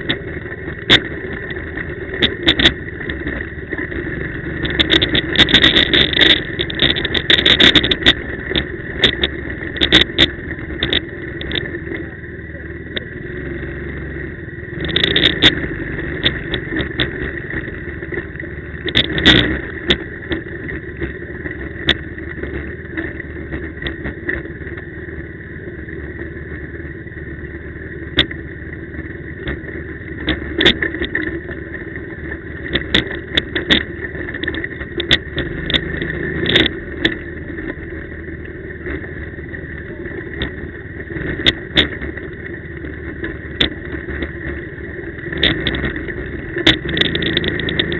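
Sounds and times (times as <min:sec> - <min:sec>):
quad engine running: 0:00.0 - 0:47.9.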